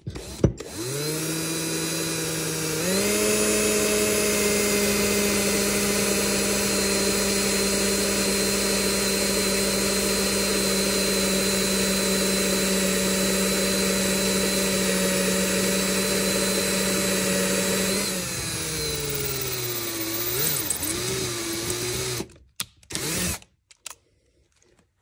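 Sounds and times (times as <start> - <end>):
power drill motor whining: 0.0 - 23.4.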